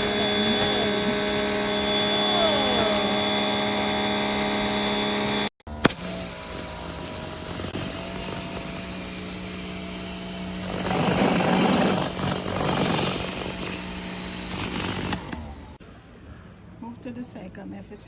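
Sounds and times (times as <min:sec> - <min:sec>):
pressure washer humming: 0:00.0 - 0:15.8.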